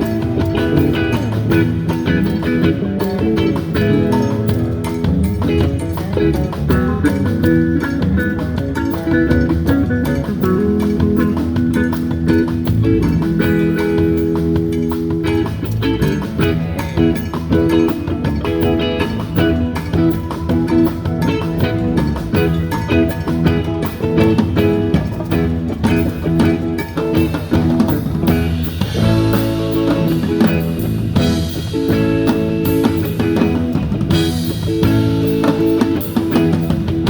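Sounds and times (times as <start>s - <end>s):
band playing: 0.0s - 37.0s
electric guitar: 0.0s - 37.0s.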